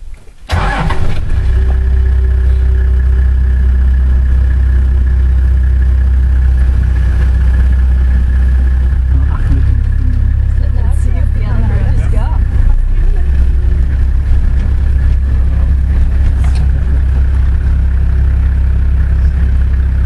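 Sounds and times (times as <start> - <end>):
car engine starting and running: 0.4 - 20.0.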